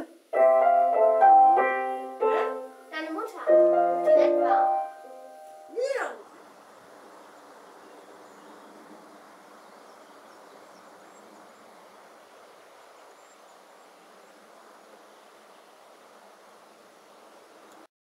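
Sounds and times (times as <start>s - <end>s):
steady outdoor hiss: 0.0s - 17.9s.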